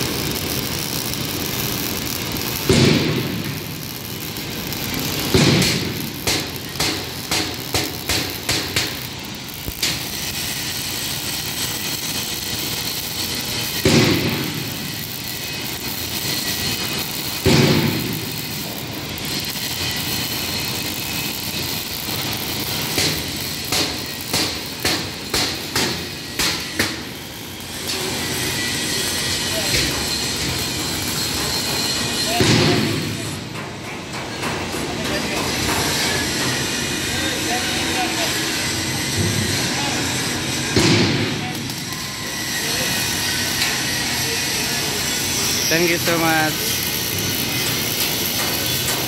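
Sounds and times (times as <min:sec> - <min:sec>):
noisy workshop din: 0:00.0 - 0:49.0.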